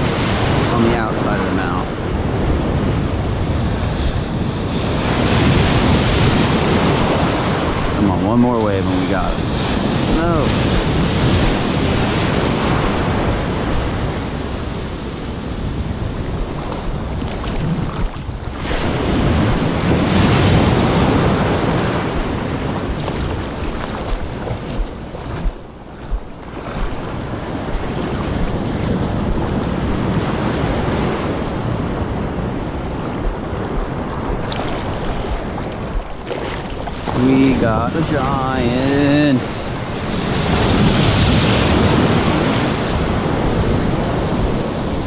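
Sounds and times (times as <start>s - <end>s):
surf waves washing over shallows: 0.0s - 45.0s.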